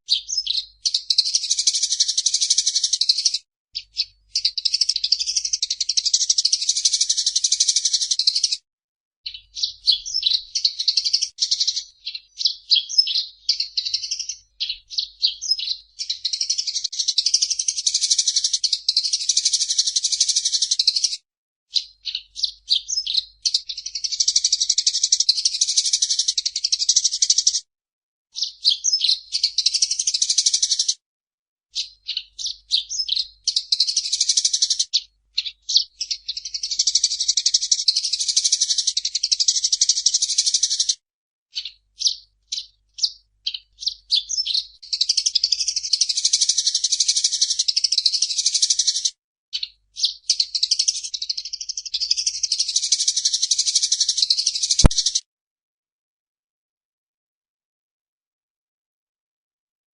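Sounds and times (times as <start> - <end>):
sparrow chirping and chattering: 0.0 - 8.6, 9.3 - 27.7, 28.3 - 31.0, 31.7 - 55.2.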